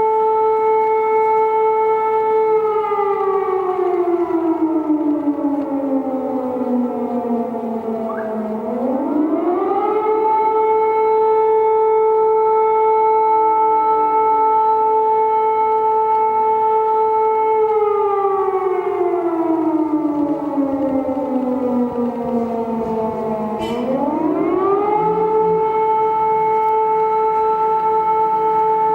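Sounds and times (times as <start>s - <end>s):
civil defense siren wailing: 0.0s - 28.9s.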